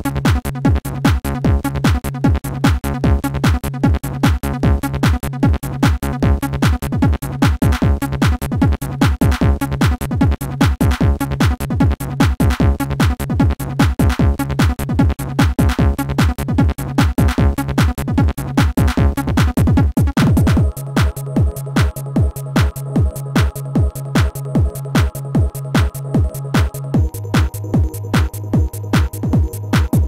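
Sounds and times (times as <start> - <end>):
techno music: 0.0 - 30.0
deep kick drums: 0.1 - 30.0.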